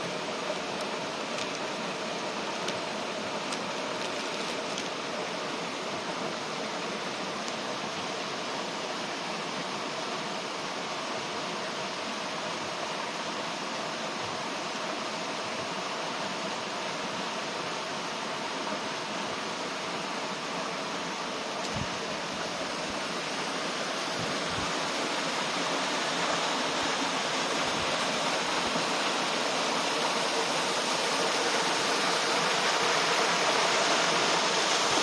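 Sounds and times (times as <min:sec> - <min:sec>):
stream rushing: 0:00.0 - 0:35.0.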